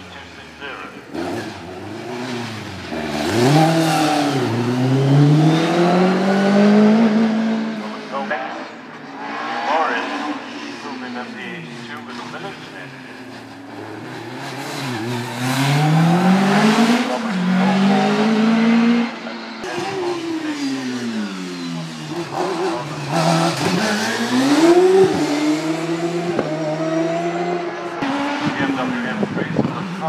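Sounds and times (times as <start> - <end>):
racing car engines accelerating: 0.0 - 30.0.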